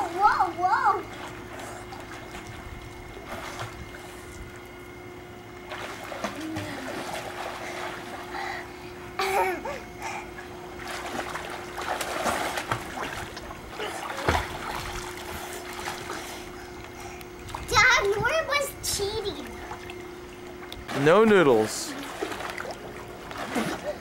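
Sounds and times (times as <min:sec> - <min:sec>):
water splashing in a pool: 0:00.0 - 0:04.8, 0:05.6 - 0:08.7, 0:10.5 - 0:24.0
steady hum: 0:00.0 - 0:24.0.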